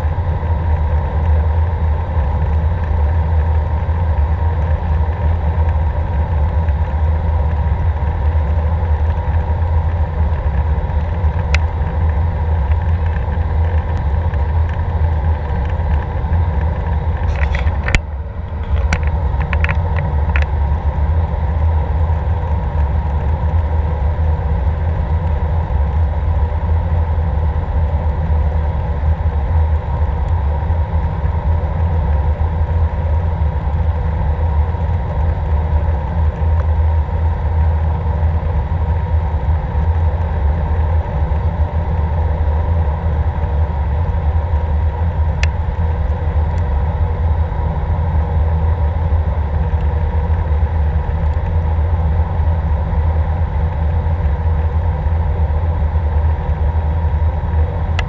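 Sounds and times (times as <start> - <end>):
faint steady hum: 0.0 - 58.0
jet engines low rumble: 0.0 - 58.0.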